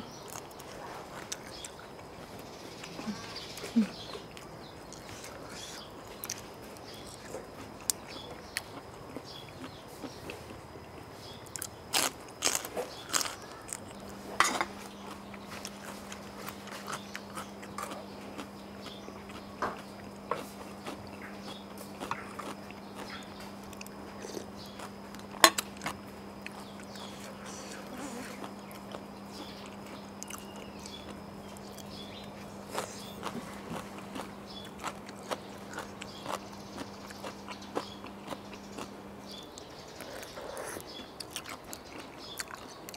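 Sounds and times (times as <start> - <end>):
steady low hum: 0.0 - 42.9
chewing and mouth sounds: 0.2 - 42.9
crunching raw vegetable: 0.2 - 42.9.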